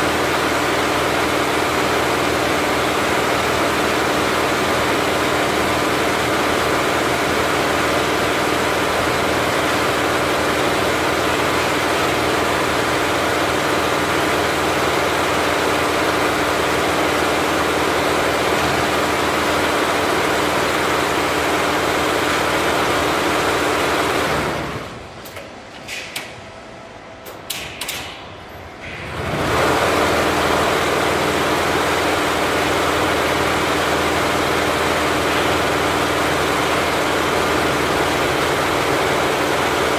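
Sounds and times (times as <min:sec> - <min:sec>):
embroidery machine running: 0:00.0 - 0:25.4, 0:28.8 - 0:39.9.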